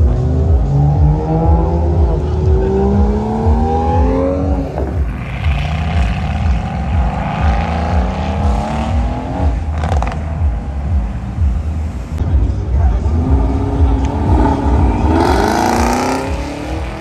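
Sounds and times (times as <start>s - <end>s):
car engines accelerating hard: 0.0s - 17.0s.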